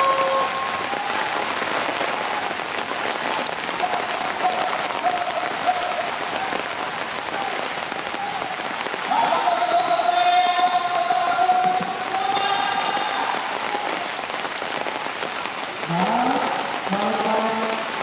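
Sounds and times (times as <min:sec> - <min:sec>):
heavy rain on water: 0:00.0 - 0:18.0.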